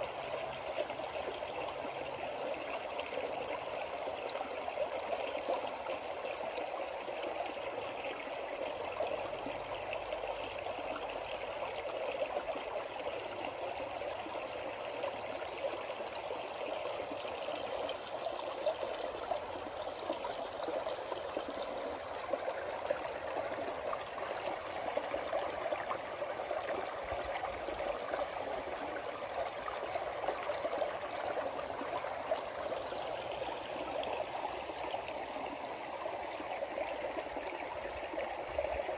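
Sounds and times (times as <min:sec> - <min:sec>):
mountain stream running: 0:00.0 - 0:38.9.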